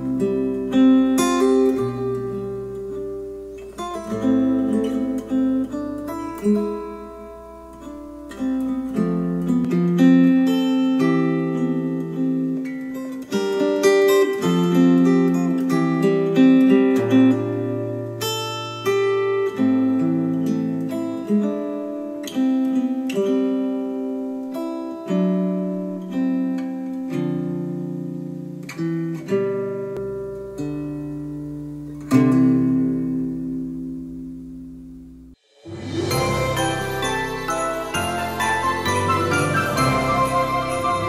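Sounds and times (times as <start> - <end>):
acoustic guitar music: 0.0 - 41.0.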